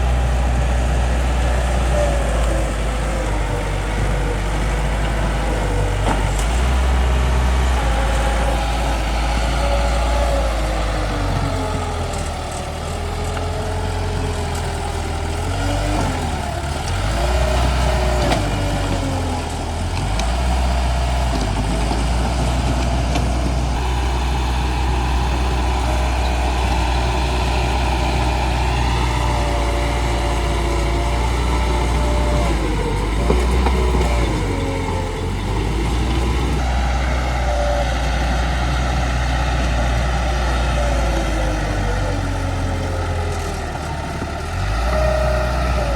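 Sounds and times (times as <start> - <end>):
bulldozer diesel engine: 0.0 - 45.9.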